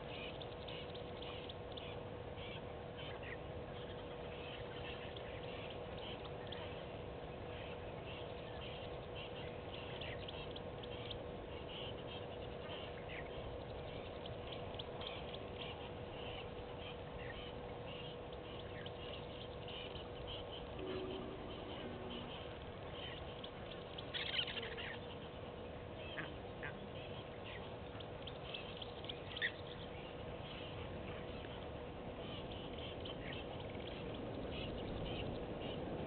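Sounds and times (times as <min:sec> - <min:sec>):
birds chirping: 0:00.0 - 0:36.0
faint steady hum: 0:00.0 - 0:36.0.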